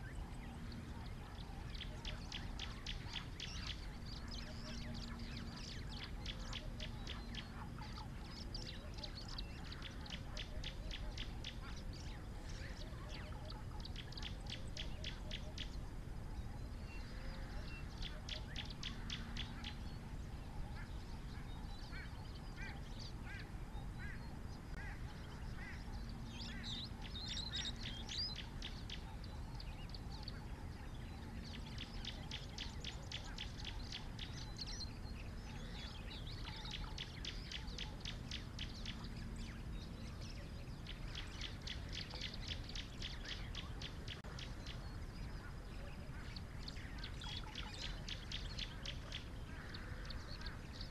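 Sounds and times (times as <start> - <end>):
birds calling in rapid trills: 0.0 - 50.9
low outdoor hiss: 0.0 - 50.9.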